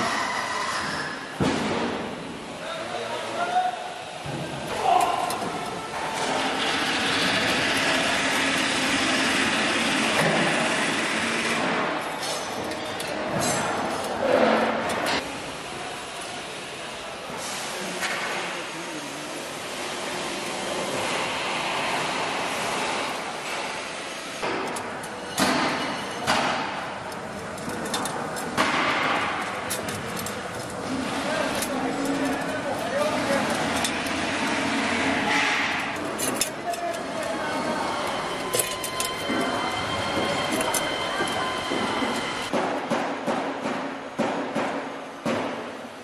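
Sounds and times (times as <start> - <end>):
workshop noise: 0.0 - 46.0.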